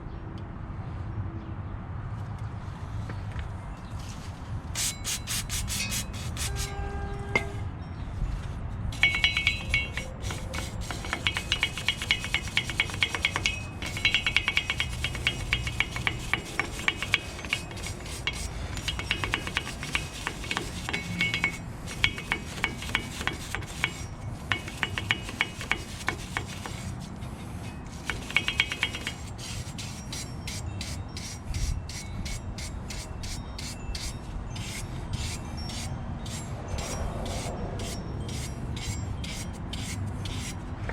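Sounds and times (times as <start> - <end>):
wire brush scrubbing metal: 4.8 - 7.7, 8.9 - 40.8.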